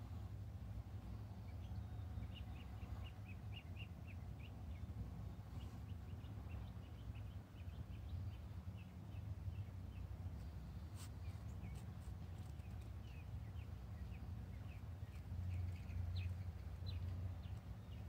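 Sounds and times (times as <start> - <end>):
low steady rumble: 0.0 - 18.0
small birds chirping: 0.2 - 18.0.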